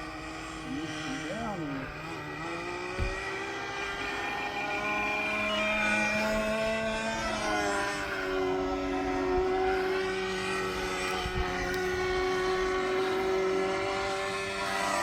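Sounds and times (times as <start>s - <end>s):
model plane motor whining: 0.0s - 15.0s.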